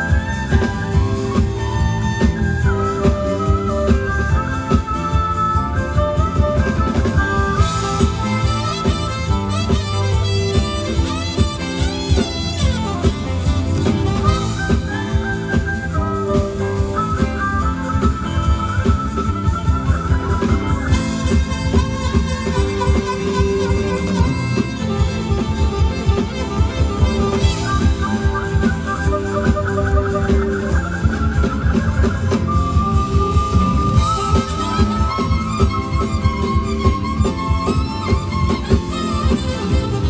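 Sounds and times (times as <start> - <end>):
sliding melody line: 0.0 - 40.0
steady drum beat: 0.0 - 40.0.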